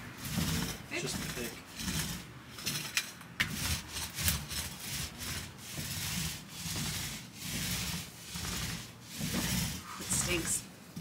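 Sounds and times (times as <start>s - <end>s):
paint roller rasping on boards: 0.0s - 11.0s.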